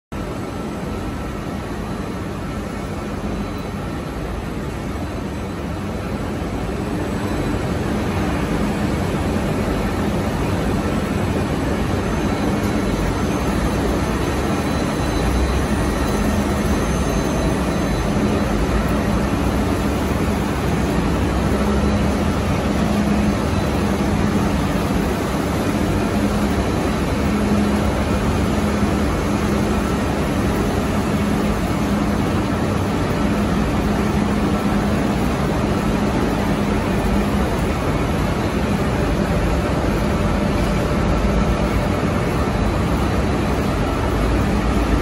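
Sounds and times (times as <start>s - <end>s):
furnace burners and blowers humming: 0.1s - 45.0s.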